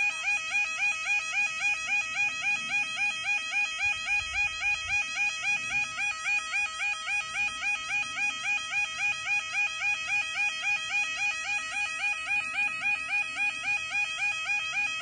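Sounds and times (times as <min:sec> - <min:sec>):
level crossing alarm warbling: 0:00.0 - 0:15.0.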